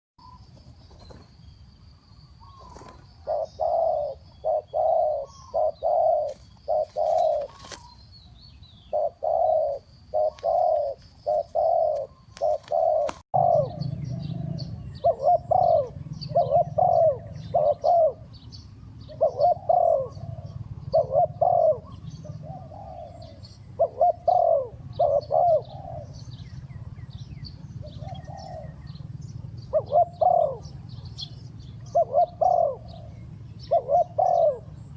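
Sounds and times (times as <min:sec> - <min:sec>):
small birds chirping: 0:00.2 - 0:34.9
dove cooing: 0:02.4 - 0:08.1, 0:08.8 - 0:34.9.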